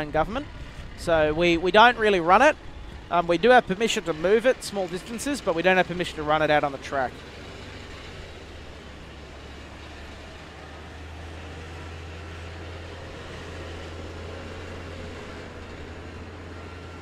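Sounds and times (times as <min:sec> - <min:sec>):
tracked vehicles engine drone: 0:00.0 - 0:17.0.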